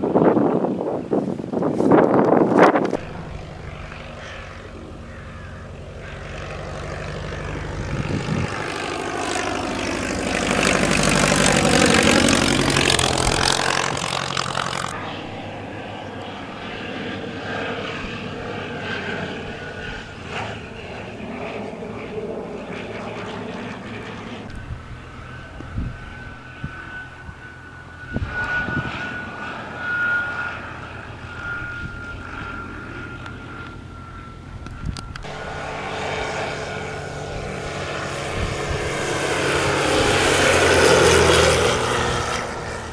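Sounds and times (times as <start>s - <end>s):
light aircraft engine droning: 0.0s - 42.9s
light propeller aircraft flying overhead: 0.0s - 42.9s.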